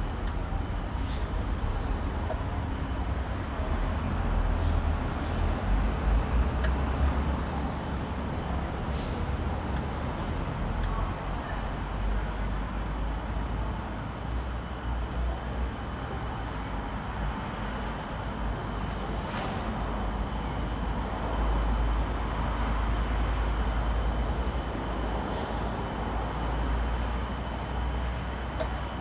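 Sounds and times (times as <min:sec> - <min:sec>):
low city rumble: 0:00.0 - 0:29.0.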